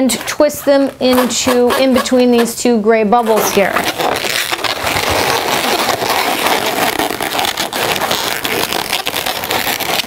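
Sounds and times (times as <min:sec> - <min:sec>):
balloons squeaking and rubbing: 0:00.1 - 0:02.6, 0:03.2 - 0:10.0.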